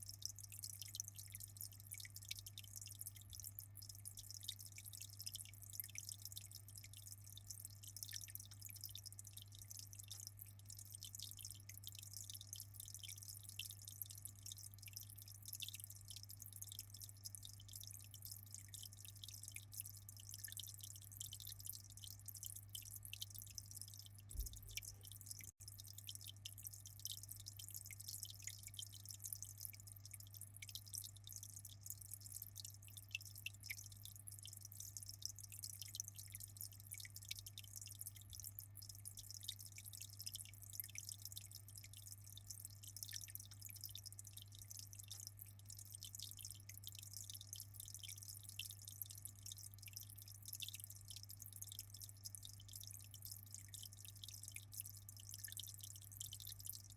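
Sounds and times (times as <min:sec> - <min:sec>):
aquarium water trickling: 0:00.0 - 0:56.9.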